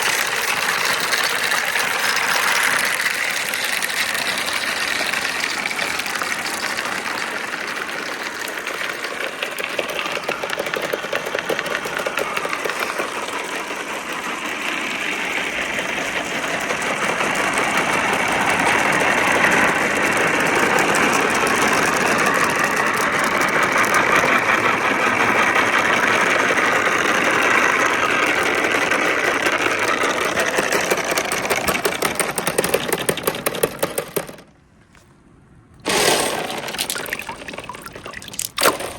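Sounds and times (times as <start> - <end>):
marbles rattling on wooden track: 0.0 - 34.5, 35.8 - 38.9.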